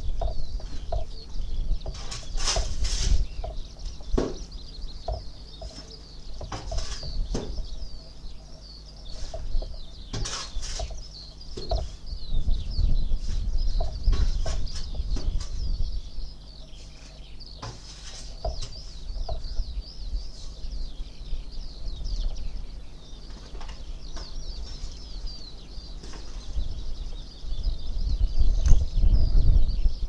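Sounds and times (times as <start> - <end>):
small birds twittering: 0.0 - 30.0.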